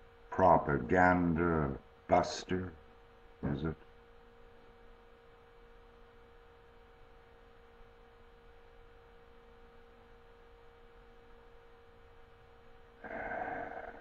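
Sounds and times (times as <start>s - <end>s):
faint hum of held tones: 0.0s - 14.0s.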